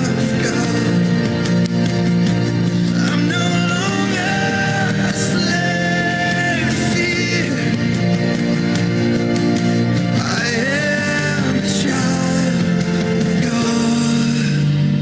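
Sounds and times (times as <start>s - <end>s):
person singing: 0.0s - 2.1s, 2.7s - 15.0s
instrumental accompaniment: 0.0s - 15.0s.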